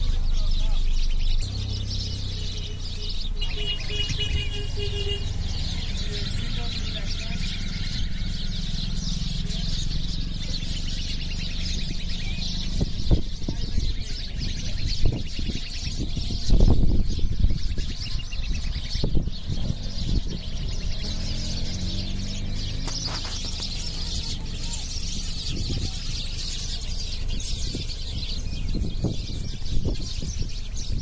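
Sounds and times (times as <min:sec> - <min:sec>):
sparrows chirping: 0:00.0 - 0:31.0.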